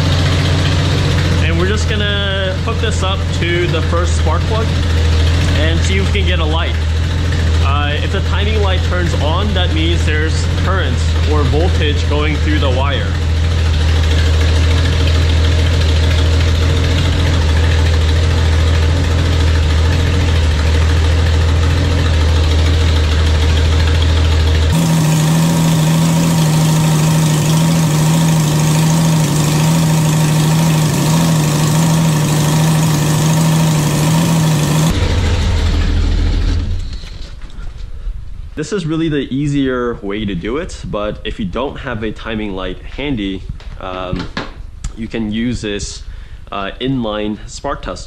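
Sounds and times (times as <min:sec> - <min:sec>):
car engine idling: 0:00.0 - 0:38.6.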